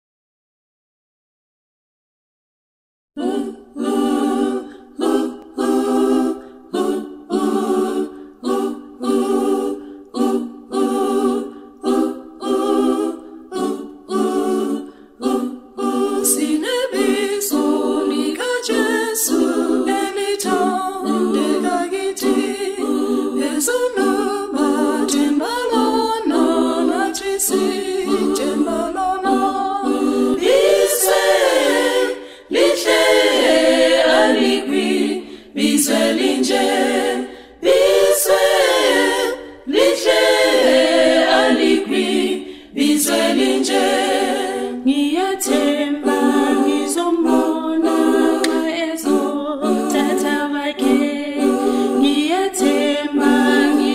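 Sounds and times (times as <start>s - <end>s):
choir singing a hymn: 3.2s - 53.9s.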